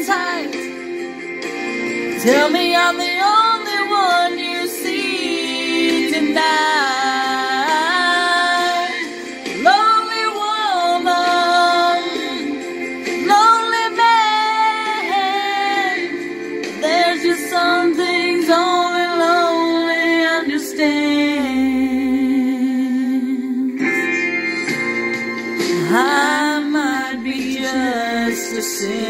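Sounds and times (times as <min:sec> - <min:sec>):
woman singing slow song: 0:00.0 - 0:00.8, 0:02.1 - 0:16.2, 0:16.8 - 0:23.8, 0:25.7 - 0:29.0
backing music: 0:00.0 - 0:29.0.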